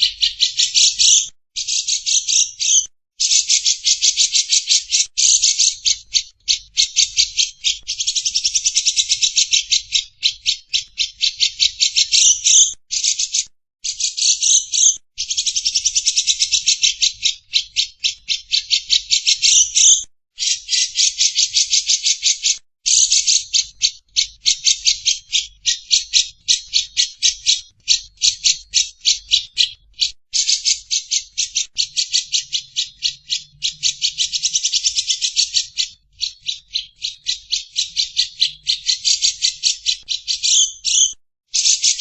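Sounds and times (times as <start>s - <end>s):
lovebird chattering: 0.0s - 42.0s.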